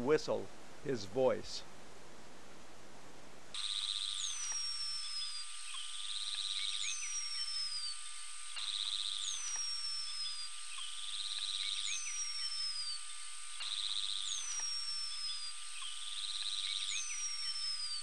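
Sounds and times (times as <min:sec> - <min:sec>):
hummingbird wing buzz: 0:03.6 - 0:18.0.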